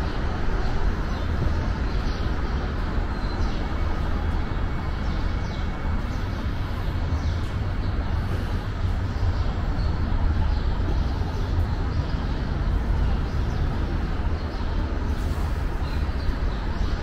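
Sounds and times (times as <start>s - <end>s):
low station rumble: 0.0s - 17.0s.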